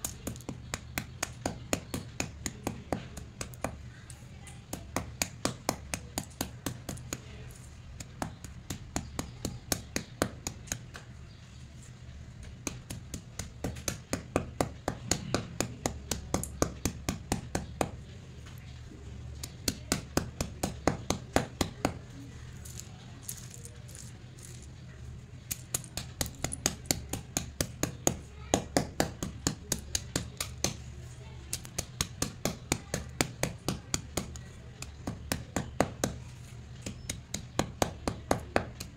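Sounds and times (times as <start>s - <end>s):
stone pounding slate sticks: 0.0s - 3.9s, 4.6s - 11.1s, 12.4s - 18.0s, 19.4s - 24.7s, 25.5s - 30.9s, 31.5s - 38.9s.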